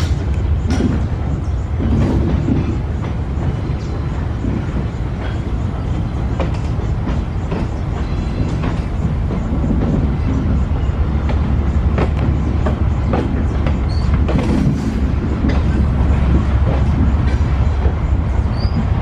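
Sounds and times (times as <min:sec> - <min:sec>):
locomotive deep rumble: 0:00.0 - 0:19.0
wheels clicking on rails: 0:00.0 - 0:19.0.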